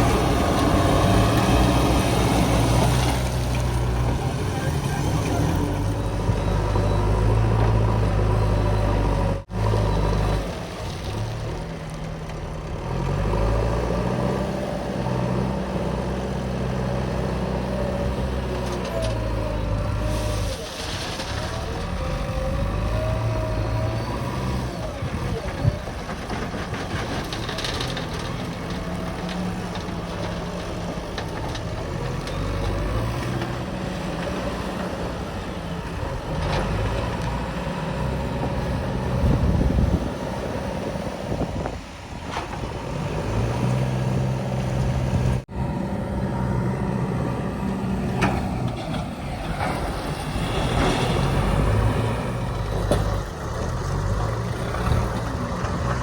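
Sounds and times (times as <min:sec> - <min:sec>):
diesel engines of heavy machinery: 0:00.0 - 0:56.0.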